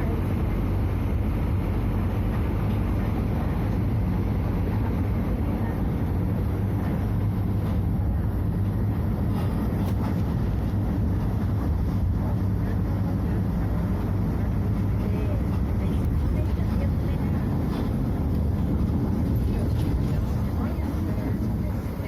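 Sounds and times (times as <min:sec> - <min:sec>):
bus diesel engine droning: 0:00.0 - 0:22.0.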